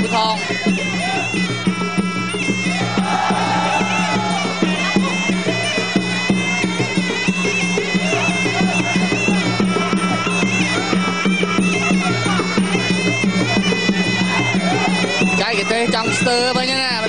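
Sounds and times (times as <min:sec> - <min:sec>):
oboe wavering melody: 0:00.0 - 0:17.0
quick drum beats: 0:00.0 - 0:17.0.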